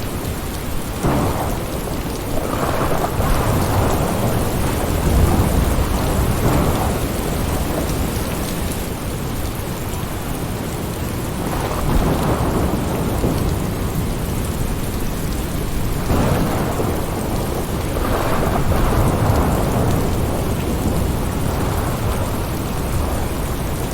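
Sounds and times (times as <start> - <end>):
steady rainfall: 0.0 - 23.9
rolling thunder: 0.9 - 9.4, 11.3 - 23.9.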